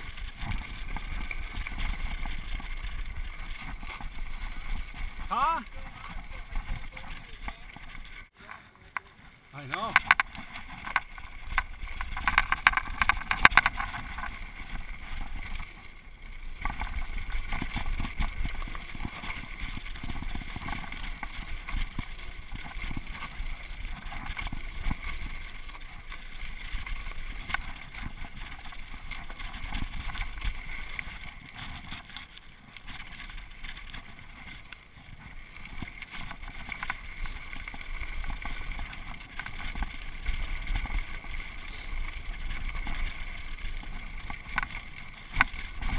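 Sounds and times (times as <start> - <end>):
bike rattling: 0.0 - 45.9.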